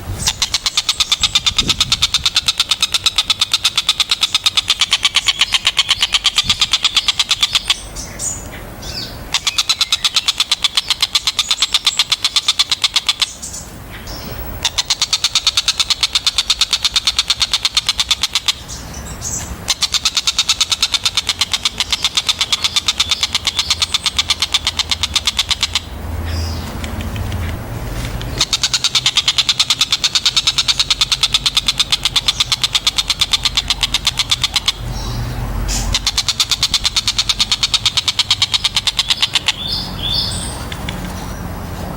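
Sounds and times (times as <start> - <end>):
kingfisher rattling call: 0.2 - 41.6.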